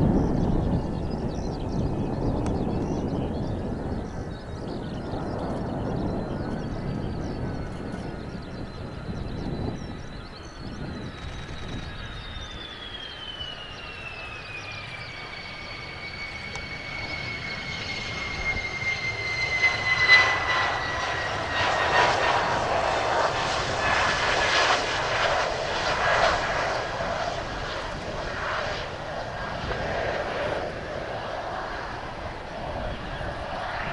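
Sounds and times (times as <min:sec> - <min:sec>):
jet engine whine: 0:00.0 - 0:33.9
rough crackling jet exhaust: 0:00.0 - 0:33.9.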